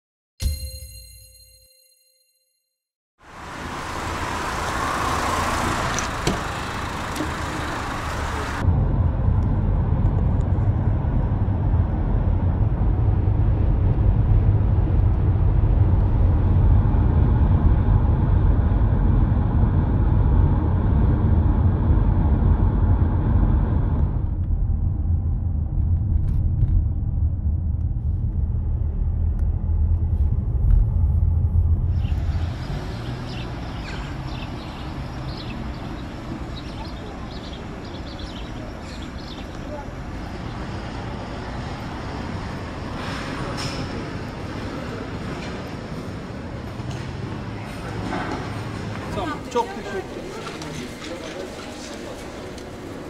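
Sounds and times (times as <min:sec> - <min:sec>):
car driving heard from inside: 0:03.2 - 0:49.2
street ambience: 0:03.2 - 0:53.0.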